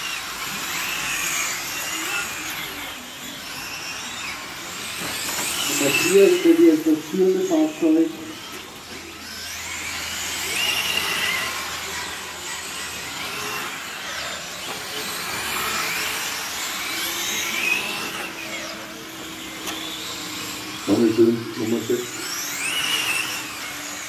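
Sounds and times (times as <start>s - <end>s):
rc car motors whining: 0.0s - 24.0s.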